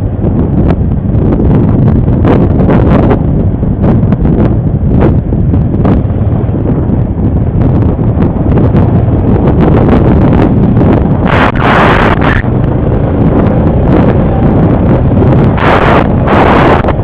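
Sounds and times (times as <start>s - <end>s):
atv engine running: 0.0s - 17.0s
wind buffeting microphone: 0.0s - 17.0s.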